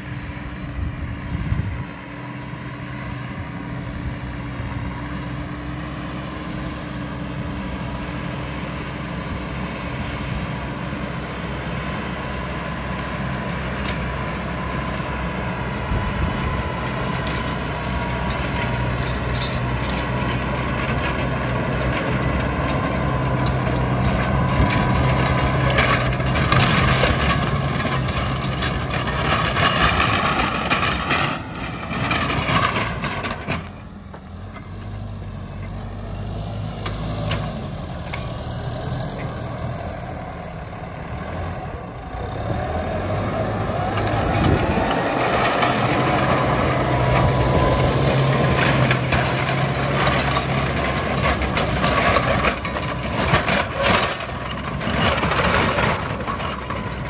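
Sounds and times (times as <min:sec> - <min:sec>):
tractor engine under load: 0:00.0 - 0:57.0.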